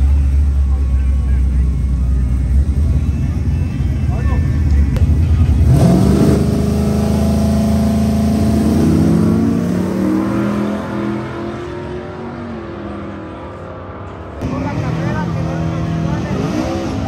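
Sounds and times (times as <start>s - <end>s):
truck engine accelerating through gears: 0.0s - 13.6s, 14.2s - 17.0s.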